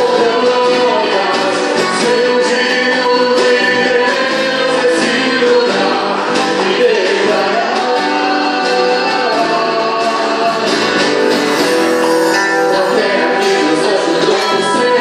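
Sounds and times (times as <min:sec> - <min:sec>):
gospel singing with instruments: 0:00.0 - 0:15.0.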